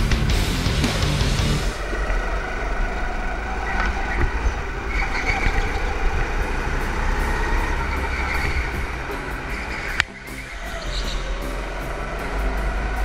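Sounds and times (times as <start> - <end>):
go-kart engines droning: 0.0 - 13.0.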